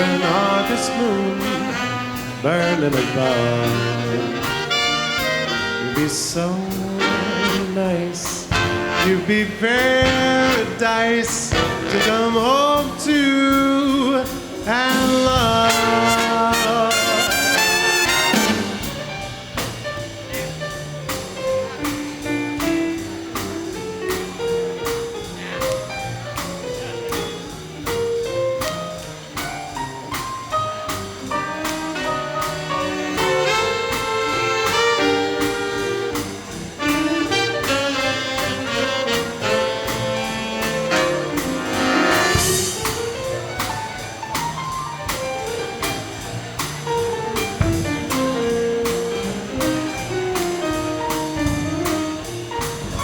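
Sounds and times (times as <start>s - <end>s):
big band swing music: 0.0s - 53.0s.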